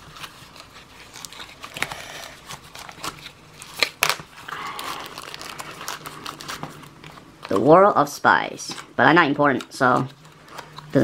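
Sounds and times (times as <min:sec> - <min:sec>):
cardboard and paper rustling: 0:00.0 - 0:11.0.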